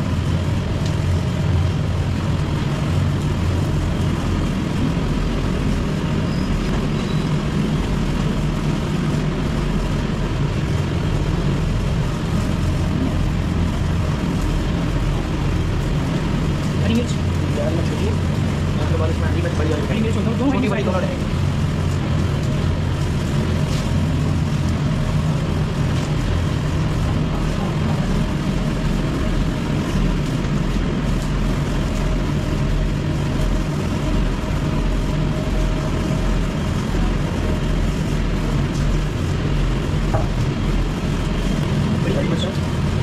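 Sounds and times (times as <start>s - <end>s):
kitchen machinery humming: 0.0s - 43.0s.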